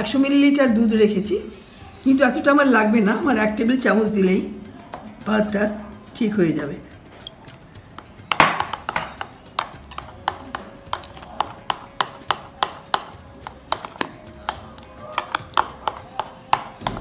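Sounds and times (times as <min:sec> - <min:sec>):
metal spoon beating batter in glass bowl: 0:00.1 - 0:17.0.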